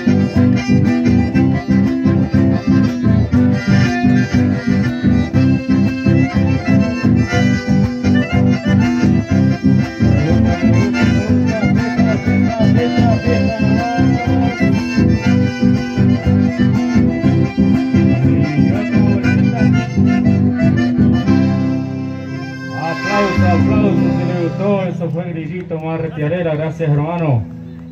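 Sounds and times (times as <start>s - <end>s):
accordions playing melody: 0.0s - 27.9s
acoustic guitars: 0.0s - 27.9s.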